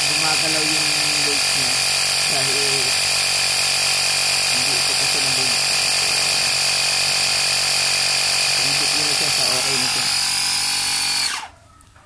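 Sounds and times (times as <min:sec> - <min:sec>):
air compressor humming and whining: 0:00.0 - 0:11.5.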